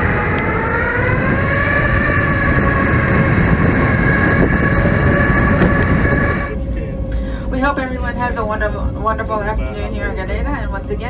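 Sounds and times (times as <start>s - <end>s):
jet engines whining at taxi power: 0.0s - 11.0s.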